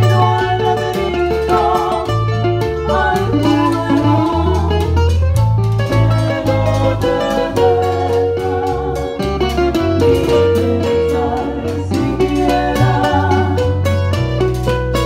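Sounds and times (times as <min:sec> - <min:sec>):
low bass notes: 0:00.0 - 0:15.0
plucked string melody: 0:00.0 - 0:15.0.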